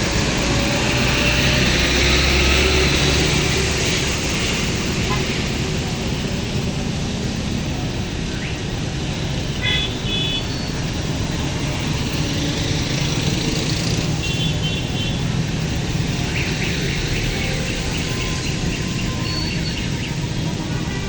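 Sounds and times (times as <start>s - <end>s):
road traffic rumble and hiss: 0.0s - 21.0s.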